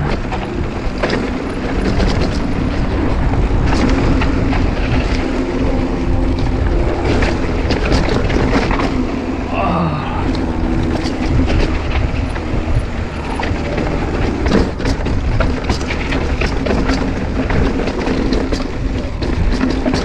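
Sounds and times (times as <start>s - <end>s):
bike clicks and rattles: 0.0s - 20.0s
bike tyres rumbling over dirt: 0.0s - 20.0s
wind on microphone: 0.0s - 20.0s.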